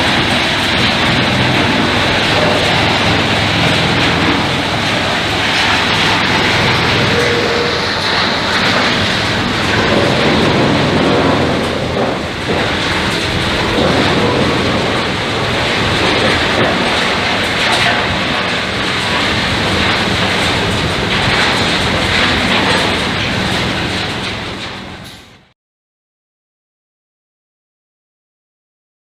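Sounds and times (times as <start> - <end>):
scattered knocks: 0.0 - 24.4
sawmill machinery running: 0.0 - 25.5.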